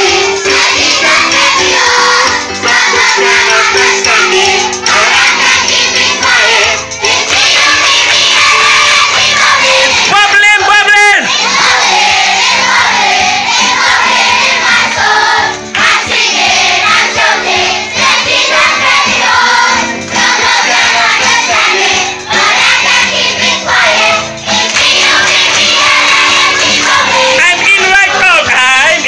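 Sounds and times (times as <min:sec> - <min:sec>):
children singing together: 0:00.0 - 0:10.1, 0:11.3 - 0:27.4.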